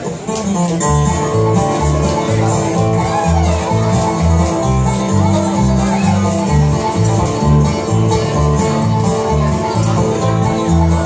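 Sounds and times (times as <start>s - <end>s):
banjo picking: 0.0s - 11.0s
strummed acoustic guitar: 0.0s - 11.0s
upright bass notes: 0.6s - 11.0s.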